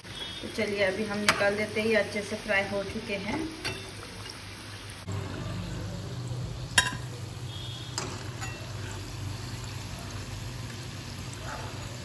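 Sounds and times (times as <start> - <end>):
hot oil bubbling and sizzling: 0.0 - 12.0.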